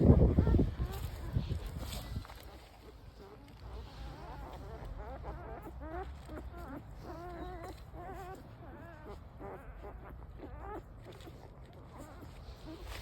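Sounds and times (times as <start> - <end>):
puppies whimpering and squealing: 0.0 - 13.0.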